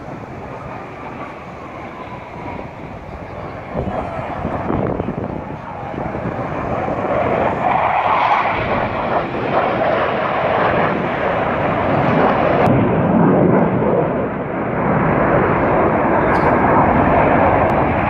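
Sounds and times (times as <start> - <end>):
jet fighters flying past: 0.0 - 18.0.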